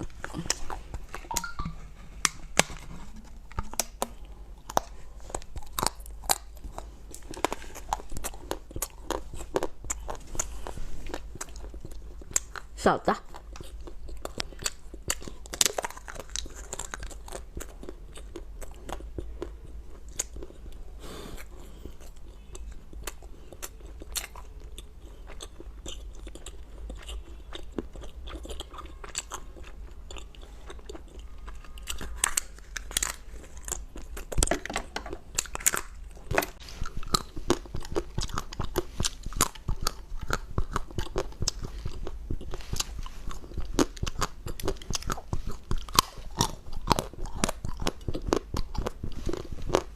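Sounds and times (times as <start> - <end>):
chewing crunchy food: 0.0 - 49.9.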